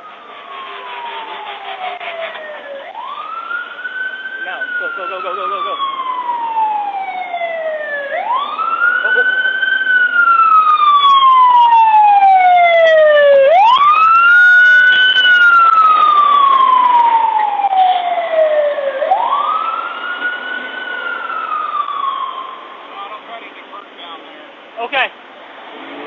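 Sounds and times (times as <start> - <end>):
emergency sirens wailing: 0.0 - 26.0.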